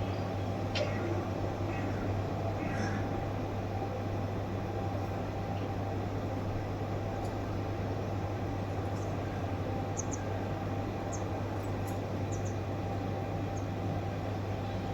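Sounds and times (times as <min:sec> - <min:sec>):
low hum and hiss: 0:00.0 - 0:14.9.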